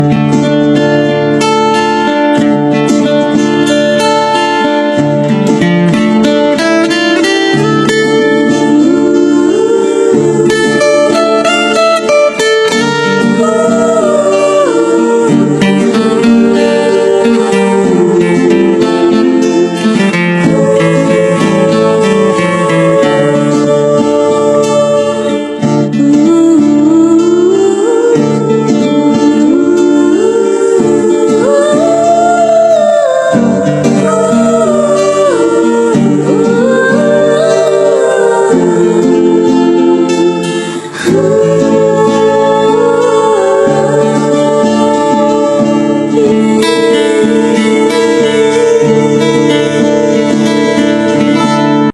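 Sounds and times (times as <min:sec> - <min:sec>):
person singing: 0:00.0 - 0:51.9
strummed acoustic guitar: 0:00.0 - 0:51.9.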